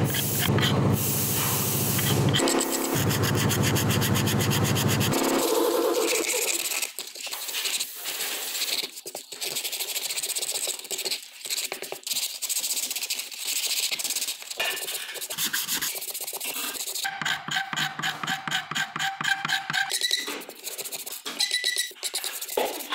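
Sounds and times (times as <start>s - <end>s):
sandpaper rubbing wood: 0.0s - 22.9s.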